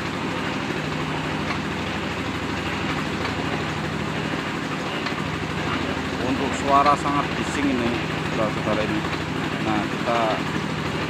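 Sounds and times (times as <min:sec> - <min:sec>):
loud engine drone: 0:00.0 - 0:11.0.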